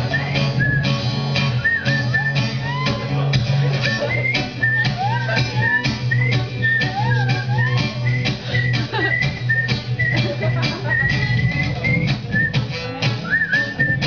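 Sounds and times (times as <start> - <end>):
acoustic guitar strumming: 0.0 - 14.0
high wordless melody: 0.0 - 14.0.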